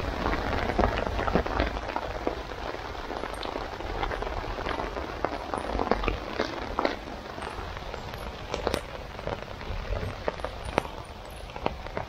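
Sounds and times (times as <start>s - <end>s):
heavy rain pattering on a tarp: 0.0s - 12.0s
rainwater pouring and splashing: 0.0s - 12.0s
sharp water drips: 0.0s - 12.0s.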